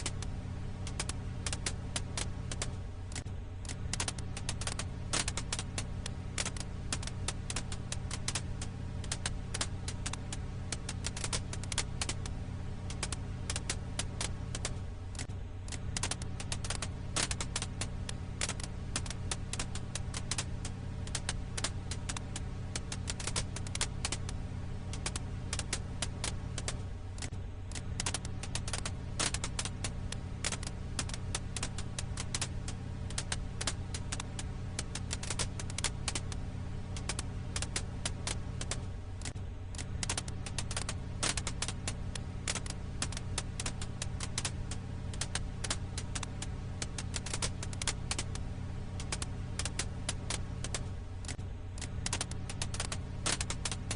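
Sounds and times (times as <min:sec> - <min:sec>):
firewood crackling: 0:00.0 - 0:53.9
steady low hum: 0:00.0 - 0:53.9.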